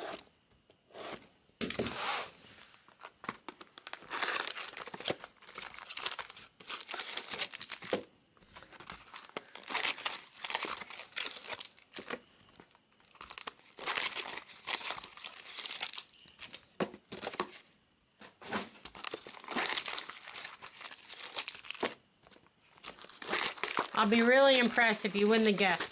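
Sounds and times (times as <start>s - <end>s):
foil wrappers torn and crinkled: 2.9s - 17.6s, 18.7s - 25.9s.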